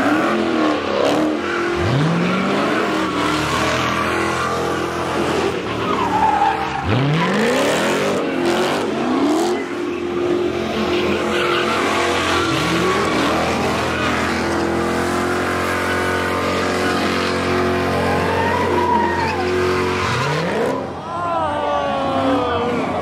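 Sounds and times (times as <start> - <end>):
car engines revving hard: 0.0 - 21.1
tyres squealing: 1.0 - 20.9.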